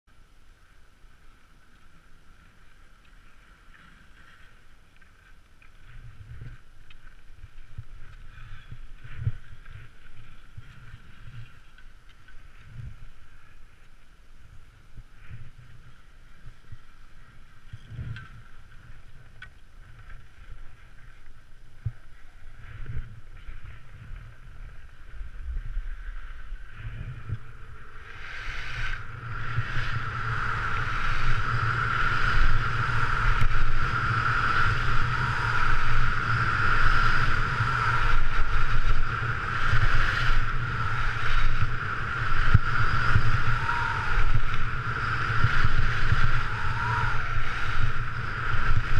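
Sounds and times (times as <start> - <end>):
skis scraping on snow: 1.2 - 21.9, 22.6 - 48.9
wind on microphone: 5.8 - 48.9.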